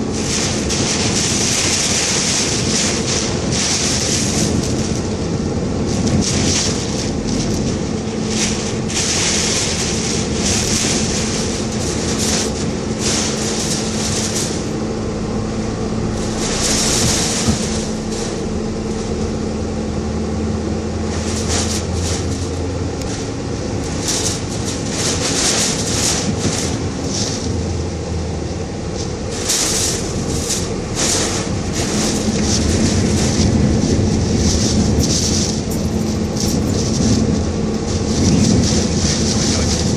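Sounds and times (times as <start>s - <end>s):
car engine and road noise: 0.0s - 39.9s
wind and rain hitting car: 0.0s - 39.9s.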